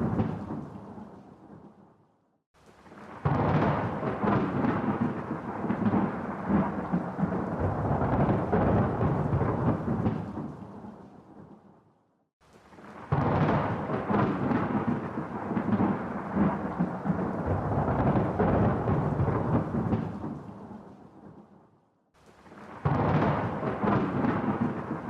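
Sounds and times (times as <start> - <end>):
thunder rumbling: 0.0 - 1.7, 2.8 - 11.6, 12.6 - 21.5, 22.4 - 25.0.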